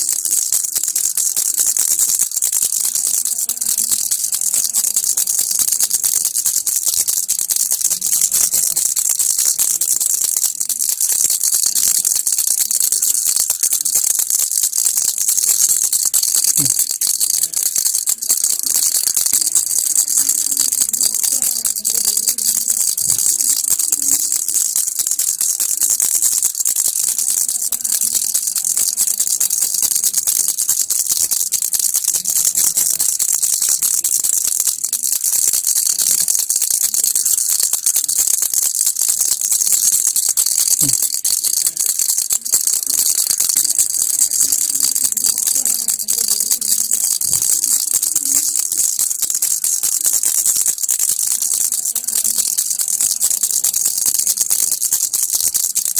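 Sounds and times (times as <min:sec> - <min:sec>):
baby rattle shaking: 0:00.0 - 0:55.9.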